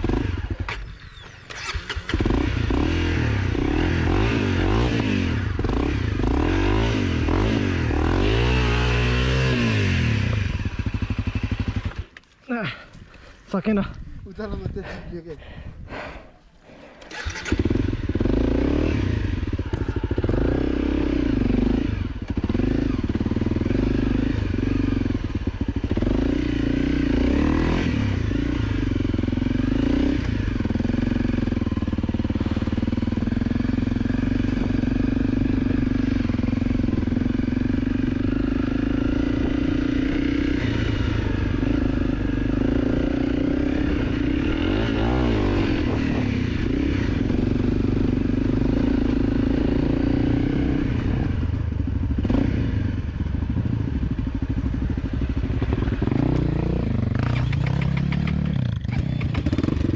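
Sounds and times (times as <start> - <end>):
dirt bike engine revving: 0.0 - 12.1, 16.8 - 53.0, 53.6 - 59.9.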